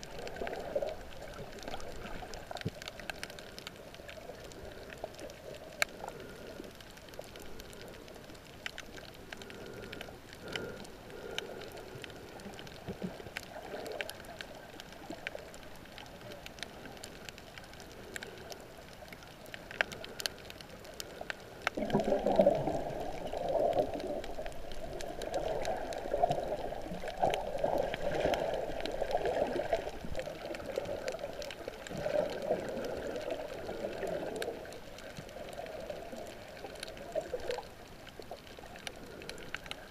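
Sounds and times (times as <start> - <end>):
faint underwater clicks: 0.0 - 39.9
underwater swishing and gurgling: 0.0 - 39.9.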